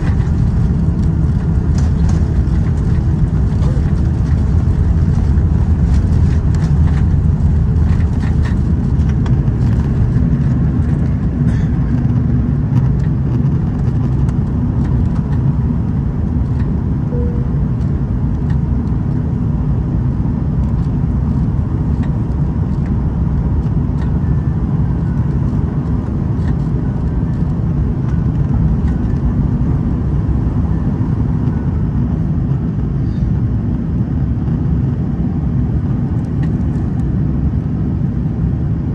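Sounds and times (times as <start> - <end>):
jet engines roaring at takeoff: 0.0 - 38.9.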